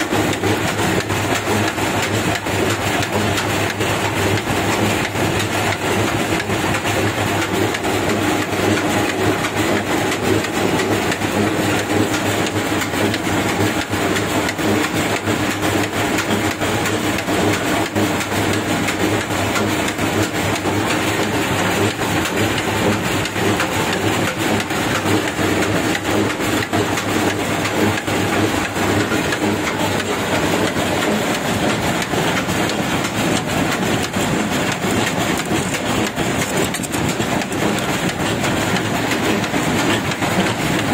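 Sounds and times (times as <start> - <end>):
oil expeller mechanical drone: 0.0 - 40.9
rapid mechanical clatter: 0.0 - 40.9.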